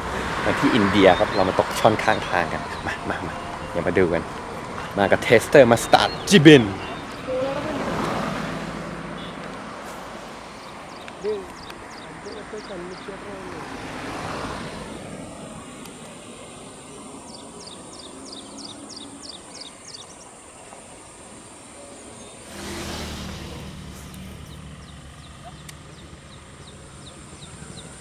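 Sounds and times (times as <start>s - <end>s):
vehicle passing: 0.0s - 28.0s.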